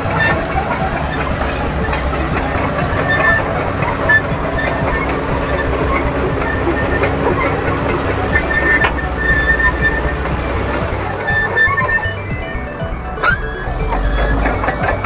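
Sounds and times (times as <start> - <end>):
bulldozer diesel engine rumbling: 0.0 - 15.0
steel tracks clanking and squealing: 0.0 - 15.0.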